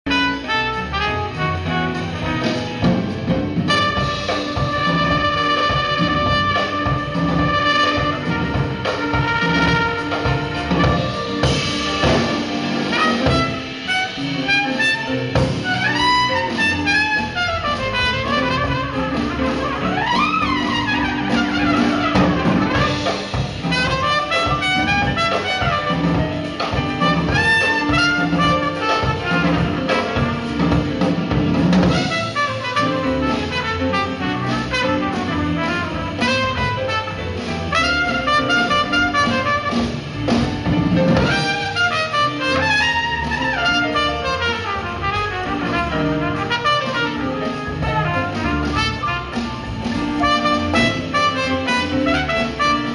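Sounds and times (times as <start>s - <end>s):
jazz band with brass: 0.0s - 52.9s.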